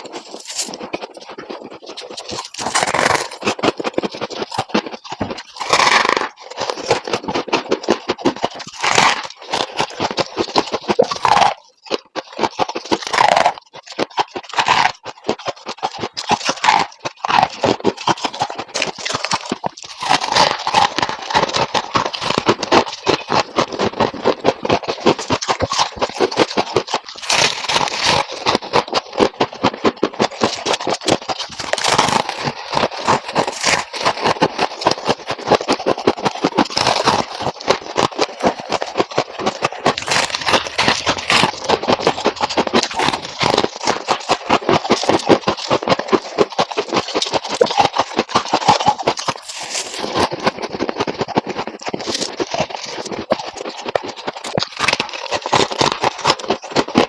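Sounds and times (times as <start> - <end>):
ice scraping and crunching: 0.0 - 57.0.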